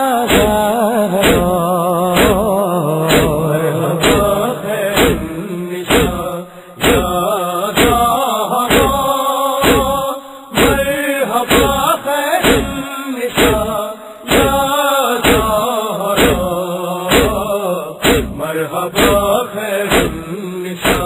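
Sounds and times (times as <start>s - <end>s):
man chanting a lament: 0.0s - 21.0s
rhythmic chest-beating slaps: 0.0s - 21.0s.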